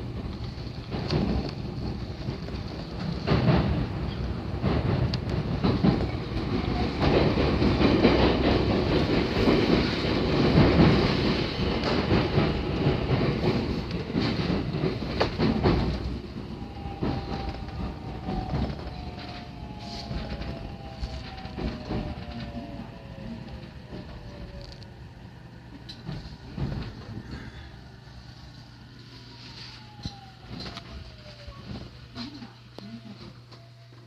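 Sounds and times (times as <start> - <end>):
train rumbling on rails: 0.0 - 33.8.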